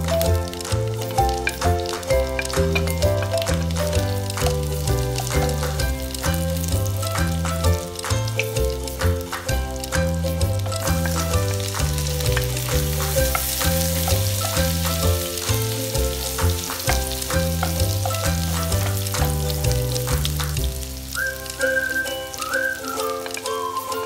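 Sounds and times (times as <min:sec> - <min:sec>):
wooden spatula stirring: 0:00.0 - 0:07.1, 0:10.2 - 0:23.6
garlic sizzling in a frying pan: 0:00.0 - 0:24.0
music with bouncing bass line: 0:00.0 - 0:24.0.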